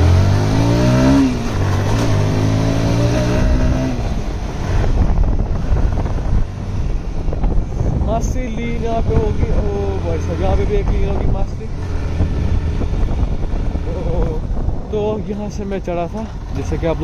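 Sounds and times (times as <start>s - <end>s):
motorcycle engine accelerating: 0.0s - 14.9s
wind rush on microphone: 0.0s - 17.0s.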